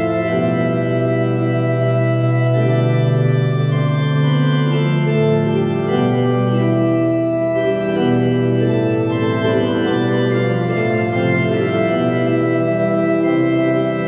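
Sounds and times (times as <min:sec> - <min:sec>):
slow organ music: 0:00.0 - 0:14.0.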